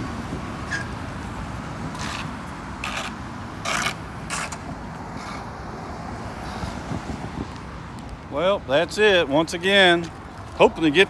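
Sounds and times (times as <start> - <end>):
cars crossing railroad tracks: 0.0 - 11.0.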